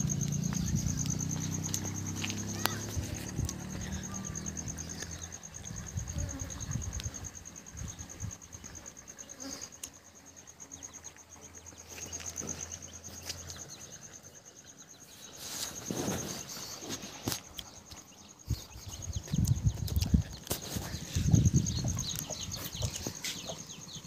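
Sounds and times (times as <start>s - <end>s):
rustle: 0.0s - 19.3s
insect trilling: 0.0s - 24.0s.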